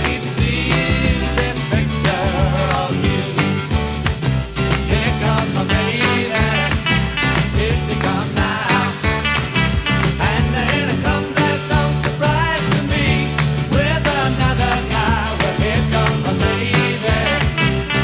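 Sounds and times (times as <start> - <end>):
upbeat pop music: 0.0 - 18.0.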